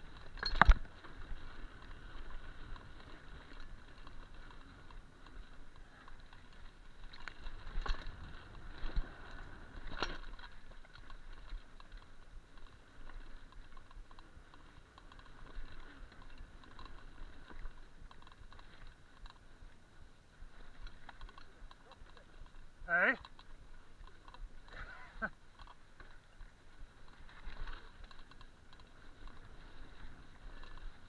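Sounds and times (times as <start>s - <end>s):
bike rattling over rough ground: 0.0s - 31.0s.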